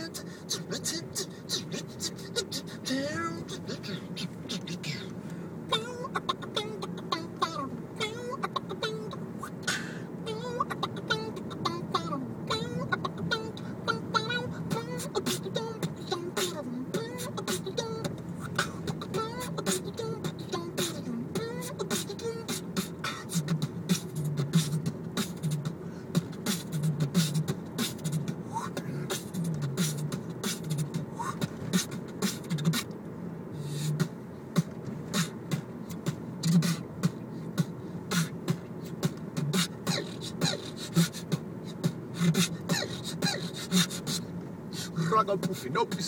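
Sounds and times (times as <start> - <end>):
man beatboxing: 0.0 - 5.1, 5.8 - 33.0, 33.6 - 46.0
road noise inside car: 0.0 - 46.0.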